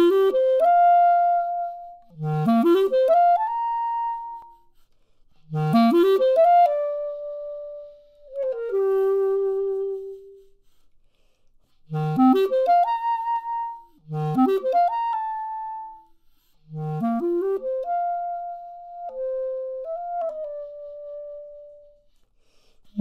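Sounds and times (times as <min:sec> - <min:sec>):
solo clarinet: 0:00.0 - 0:10.8, 0:11.6 - 0:23.0.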